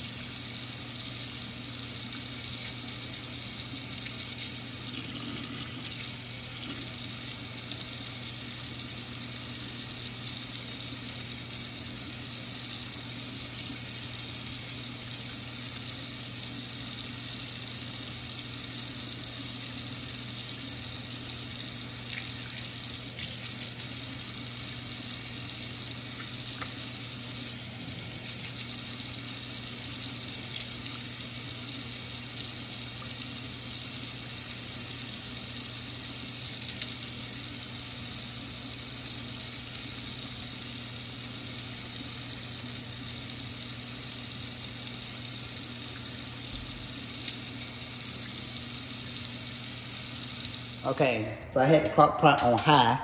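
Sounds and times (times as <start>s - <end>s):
faucet running into steel sink: 0.0s - 51.0s.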